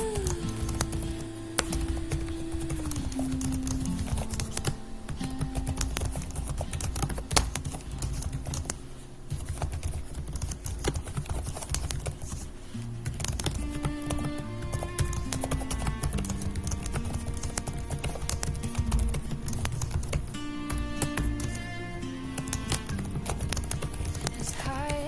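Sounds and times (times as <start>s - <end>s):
typing on a keyboard: 0.0s - 12.4s, 13.0s - 21.7s, 22.3s - 25.0s
soft background music: 0.0s - 25.0s.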